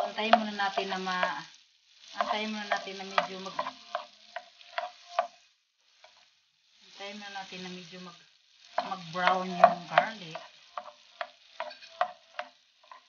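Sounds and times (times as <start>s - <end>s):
wooden spatula scraping pan: 0.0s - 6.3s, 8.6s - 13.0s
garlic frying in butter: 0.0s - 13.0s.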